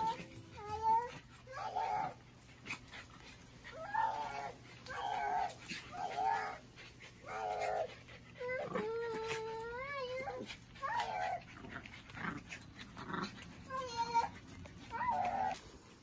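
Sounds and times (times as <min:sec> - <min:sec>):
dog whining: 0:00.0 - 0:02.2, 0:03.6 - 0:15.7.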